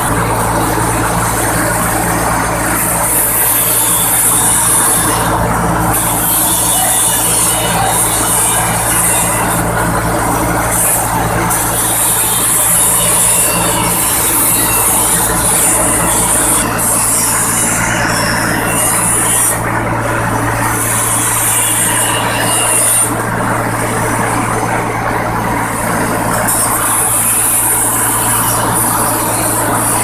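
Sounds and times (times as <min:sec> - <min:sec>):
rice milling machine hum: 0:00.0 - 0:30.0.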